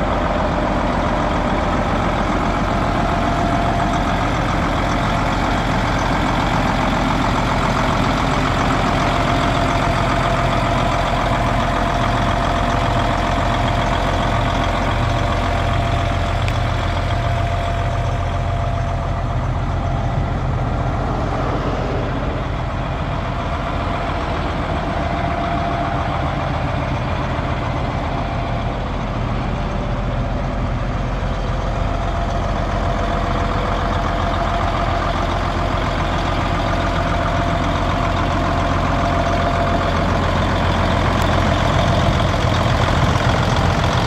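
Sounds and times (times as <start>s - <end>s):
tractor diesel engine idling: 0.0s - 44.0s.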